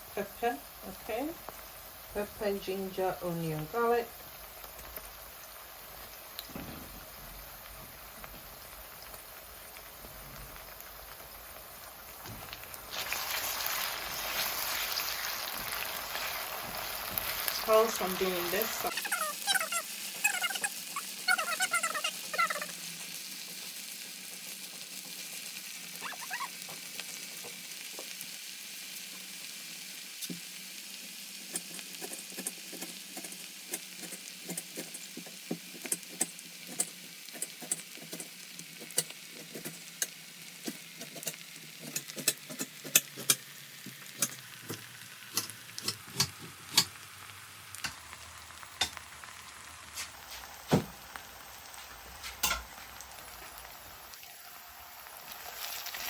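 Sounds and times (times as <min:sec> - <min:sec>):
onions sizzling in oil: 0:00.0 - 0:56.0.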